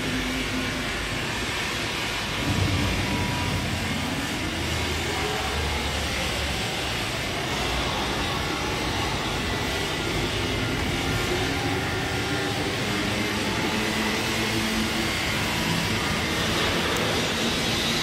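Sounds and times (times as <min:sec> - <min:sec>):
industrial machinery hum and hiss: 0:00.0 - 0:18.0.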